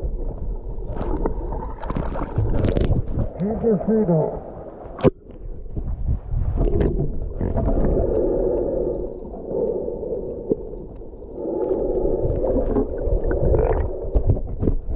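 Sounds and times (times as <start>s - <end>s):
underwater rumble and sloshing: 0.0s - 14.9s.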